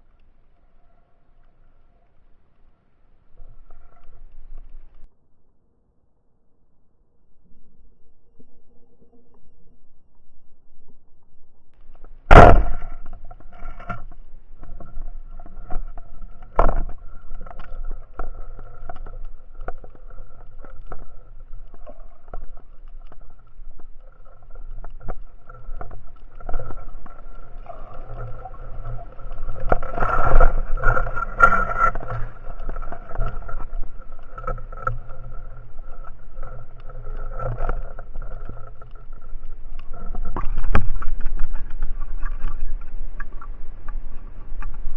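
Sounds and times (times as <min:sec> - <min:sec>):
clicks and knocks underwater: 0:03.3 - 0:05.1, 0:09.0 - 0:44.9.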